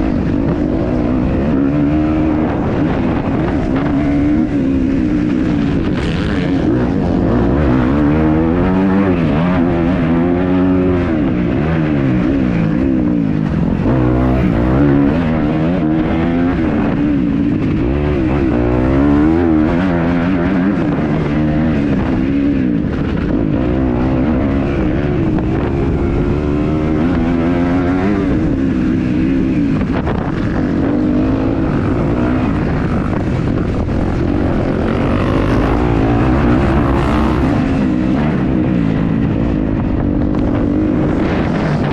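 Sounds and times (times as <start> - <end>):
motocross engine revving: 0.2 - 41.9.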